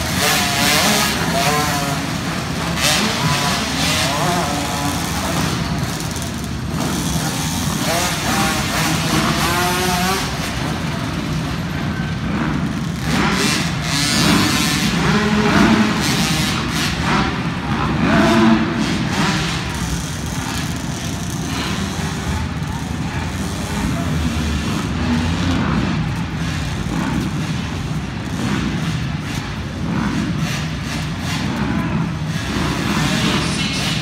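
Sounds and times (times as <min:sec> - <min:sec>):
two-stroke motocross bike engines: 0:00.0 - 0:34.0.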